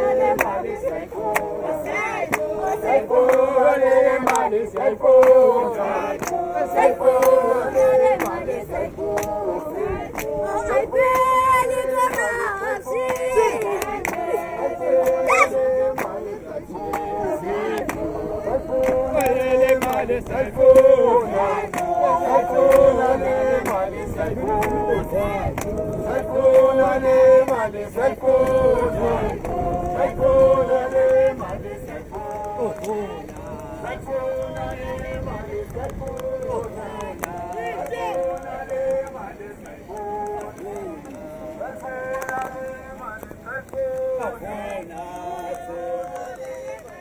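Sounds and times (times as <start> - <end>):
group singing chant-like: 0.0 - 47.0.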